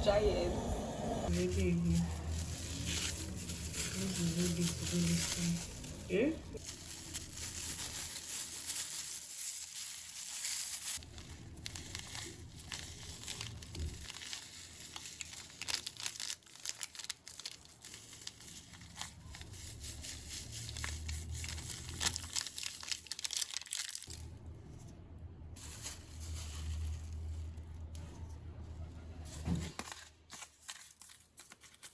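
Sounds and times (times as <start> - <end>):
crinkling and rustling: 1.3 - 31.9.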